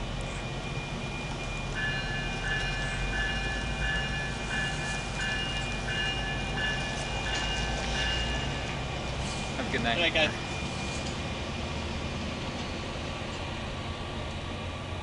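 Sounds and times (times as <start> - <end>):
train idling rumble: 0.0 - 15.0.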